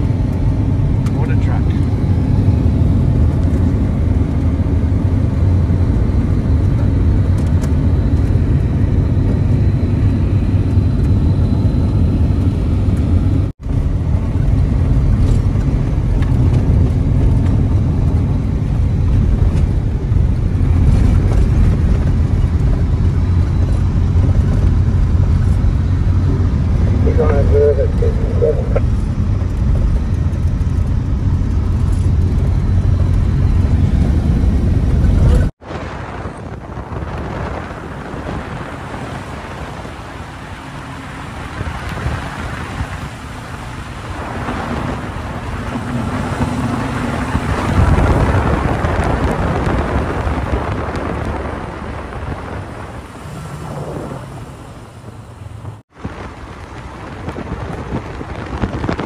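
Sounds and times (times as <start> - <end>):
car engine and tyre rumble: 0.0 - 59.0
road and wind noise: 0.0 - 59.0.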